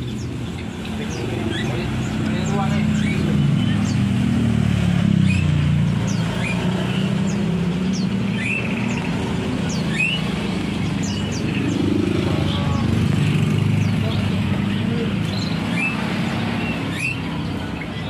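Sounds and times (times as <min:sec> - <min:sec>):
low rumble of traffic: 0:00.0 - 0:18.0
small birds chirping: 0:00.0 - 0:18.0.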